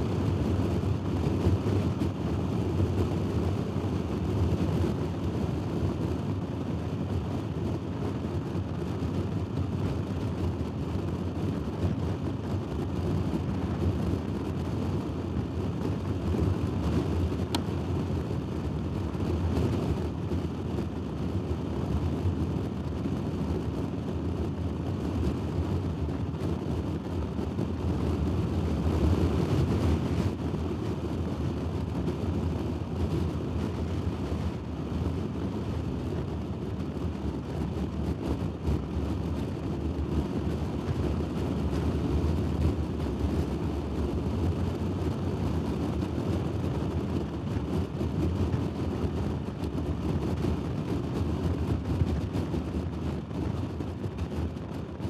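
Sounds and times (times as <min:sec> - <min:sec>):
scooter engine and road noise: 0:00.0 - 0:55.0
wind on microphone: 0:00.0 - 0:55.0.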